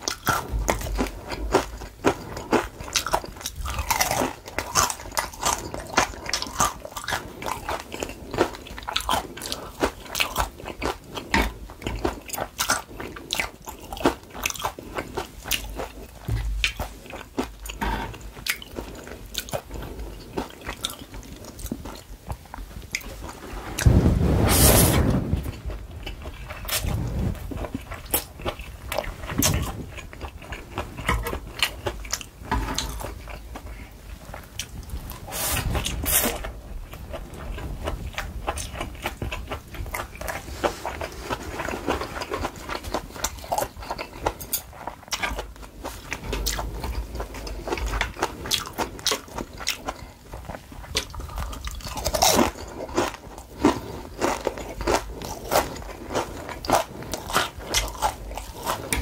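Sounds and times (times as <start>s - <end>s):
crisp crunching and chewing: 0.0s - 23.8s, 25.5s - 59.0s.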